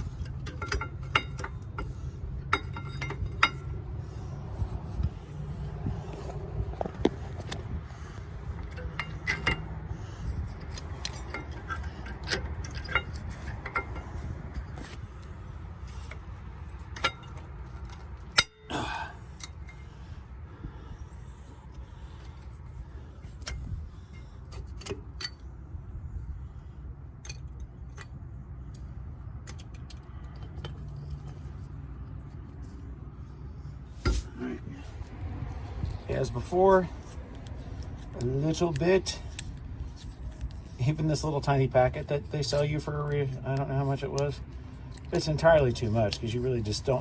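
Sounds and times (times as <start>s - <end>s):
steady low rumble: 0.0s - 47.0s.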